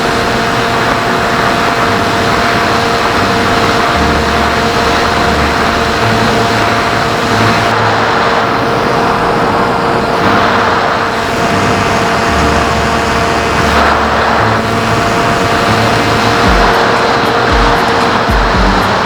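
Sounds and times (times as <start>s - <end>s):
electric motor whine: 0.0s - 19.0s
wind rush: 0.0s - 19.0s.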